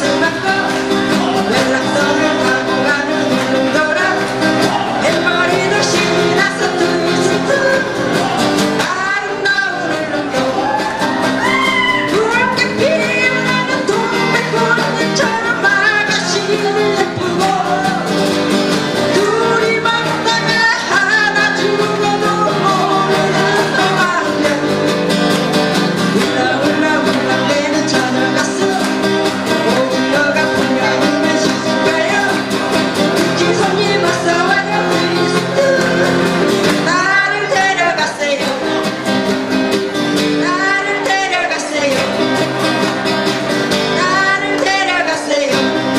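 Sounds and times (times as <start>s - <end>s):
people singing into microphones: 0.0s - 25.0s, 25.8s - 39.4s, 40.2s - 45.9s
acoustic guitars strummed: 0.0s - 45.9s.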